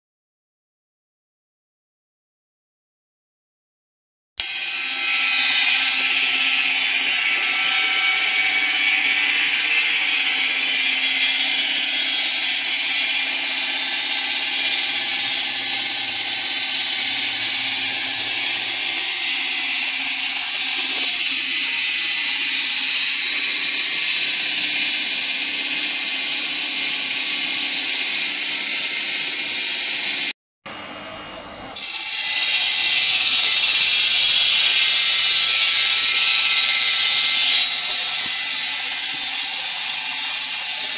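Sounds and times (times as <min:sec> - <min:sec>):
stone saw grinding whine: 0:04.4 - 0:40.9.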